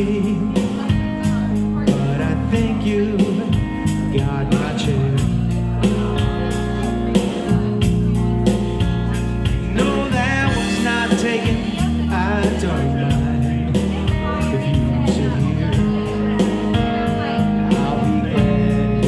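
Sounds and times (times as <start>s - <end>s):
drum beat: 0.0s - 19.0s
electric bass: 0.0s - 19.0s
electric guitar: 0.0s - 19.0s.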